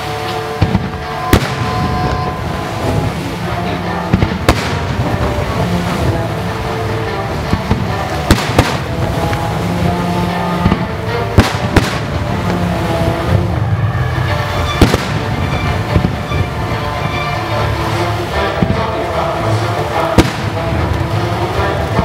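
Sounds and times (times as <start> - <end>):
fireworks bangs: 0.0 - 17.4, 18.4 - 19.2, 20.0 - 22.0
music playing: 0.0 - 22.0.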